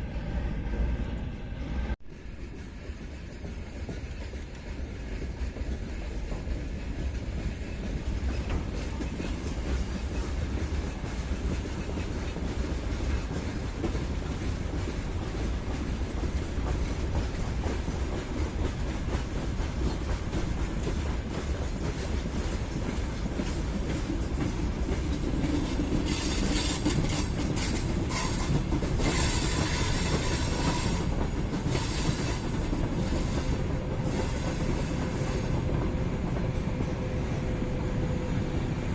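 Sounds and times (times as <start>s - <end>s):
train wheels clattering over rails: 2.1s - 38.9s.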